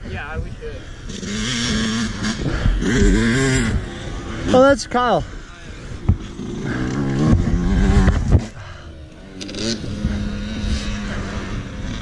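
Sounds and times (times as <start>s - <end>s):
dirt bike engine revving: 0.9s - 12.0s.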